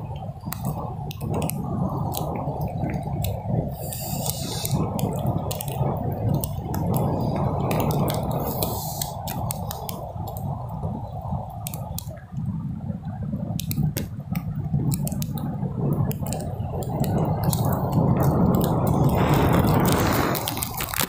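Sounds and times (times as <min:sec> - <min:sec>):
surf rumble: 0:00.0 - 0:21.0
wind: 0:00.0 - 0:21.0
sharp clicks: 0:00.4 - 0:10.5, 0:13.6 - 0:21.0.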